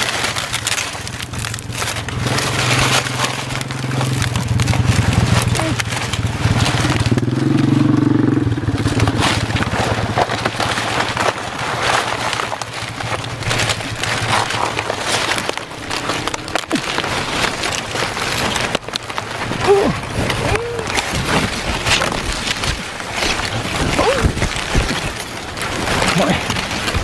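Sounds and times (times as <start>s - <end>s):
dry leaves crackling and tearing: 0.0s - 27.0s.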